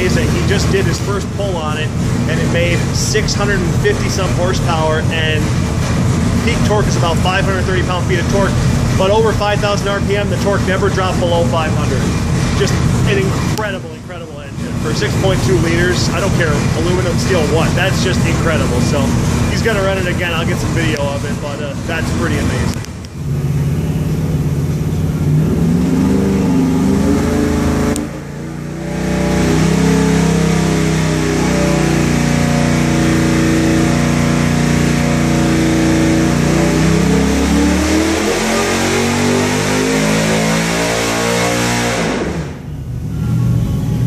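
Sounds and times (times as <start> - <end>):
race engine revving at full throttle: 0.0 - 44.0.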